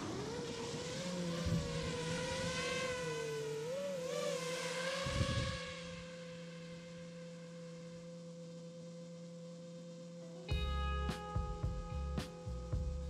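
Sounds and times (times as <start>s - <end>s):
quadcopter motors whining: 0.0s - 10.6s.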